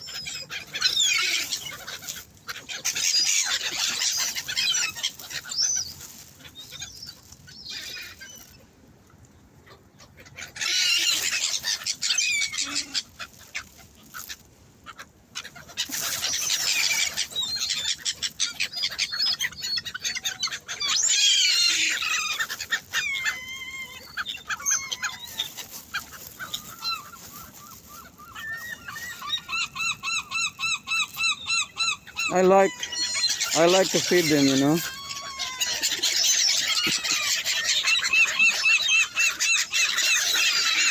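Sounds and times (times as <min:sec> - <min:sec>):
gulls and waterbirds calling: 0:00.0 - 0:08.7, 0:09.6 - 0:40.9.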